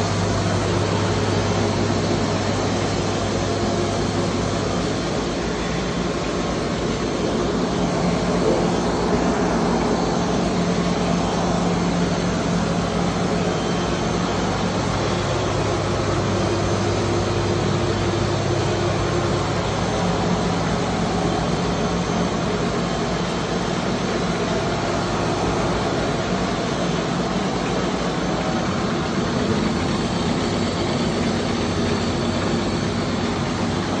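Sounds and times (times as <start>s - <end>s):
compression machine humming: 0.0s - 34.0s.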